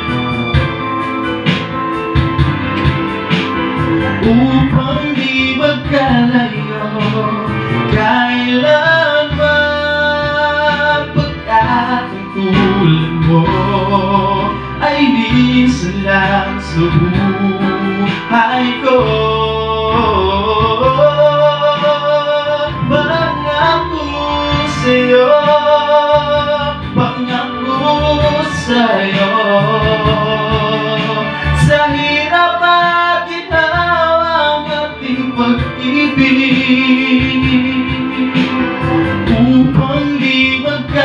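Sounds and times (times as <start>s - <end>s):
instrumental backing track: 0.0s - 41.0s
man singing a love ballad: 2.8s - 41.0s.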